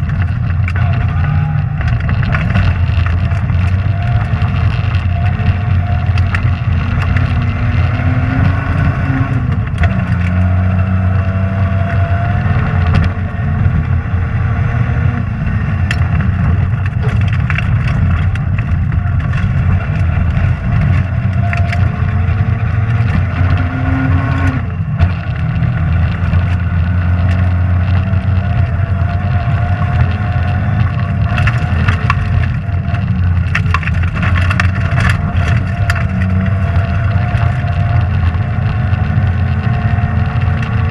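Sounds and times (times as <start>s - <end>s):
gravel ticking against car: 0.0s - 14.2s, 15.2s - 40.9s
rally car engine pulling hard: 0.0s - 40.9s.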